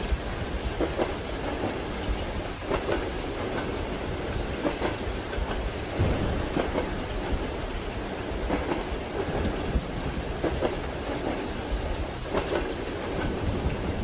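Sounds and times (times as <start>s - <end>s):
low rumble of moving carriage: 0.0s - 14.0s
rain falling: 0.0s - 14.0s
train wheels clacking over rail joints: 0.0s - 14.0s.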